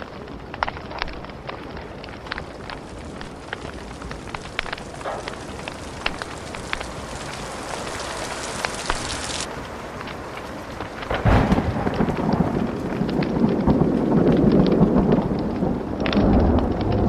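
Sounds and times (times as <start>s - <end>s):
rain hissing: 0.0s - 17.0s
thunder rumbling: 0.0s - 17.0s
wood fire crackling and popping: 0.0s - 17.0s.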